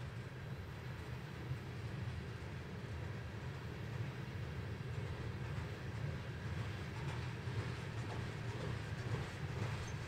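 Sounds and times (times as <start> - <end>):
freight train rumbling on rails: 0.0 - 10.0.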